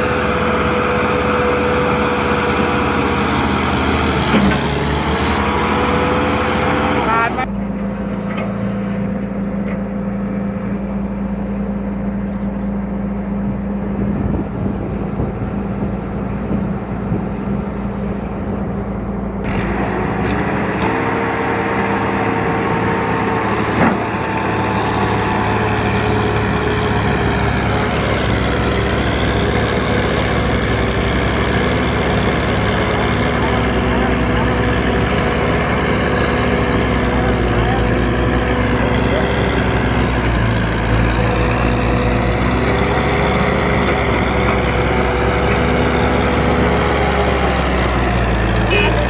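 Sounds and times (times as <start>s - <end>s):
engine steady note: 0.0s - 49.0s
tractor engine running: 0.0s - 49.0s.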